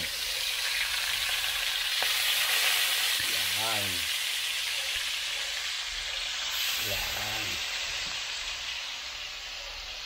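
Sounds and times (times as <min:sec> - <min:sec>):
eel frying in hot oil: 0:00.0 - 0:10.0.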